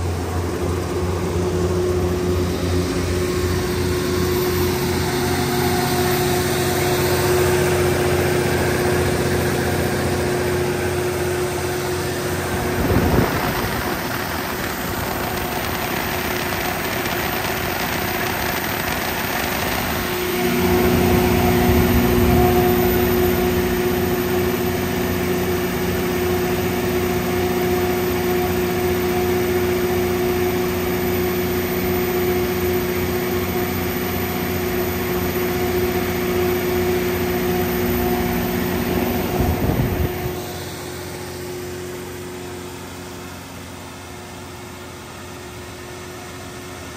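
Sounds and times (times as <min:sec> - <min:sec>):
diesel generator engine running: 0:00.0 - 0:46.9.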